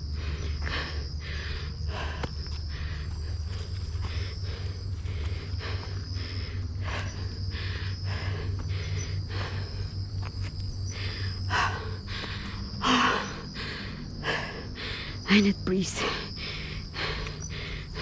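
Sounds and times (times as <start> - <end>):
person panting heavily: 0.0 - 18.0.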